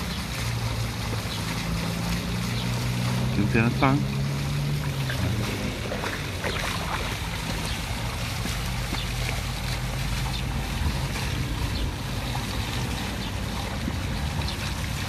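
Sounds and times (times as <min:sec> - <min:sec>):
dog sloshing through water: 0:00.0 - 0:15.0
fountain jets splashing: 0:00.0 - 0:15.0.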